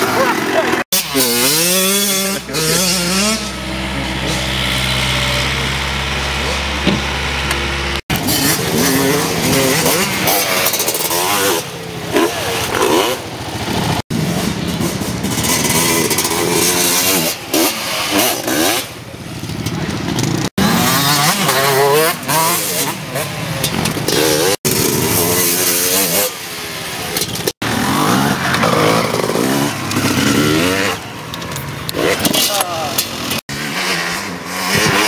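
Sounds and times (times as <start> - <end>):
dirt bike and quad engines revving: 0.0 - 35.0.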